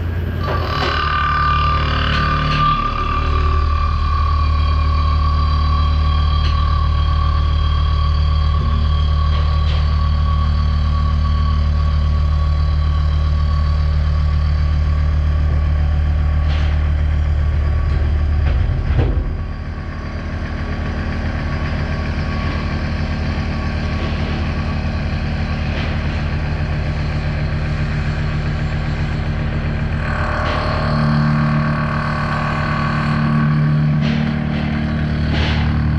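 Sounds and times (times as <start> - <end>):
machine hum with held tones: 0.0 - 35.9.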